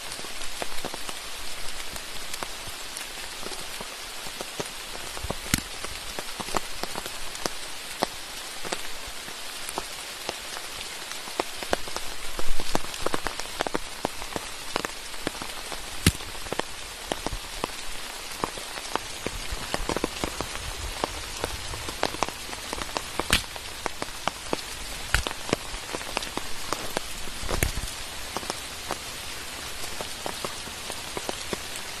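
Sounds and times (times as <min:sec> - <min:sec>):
rain pattering: 0:00.0 - 0:32.0.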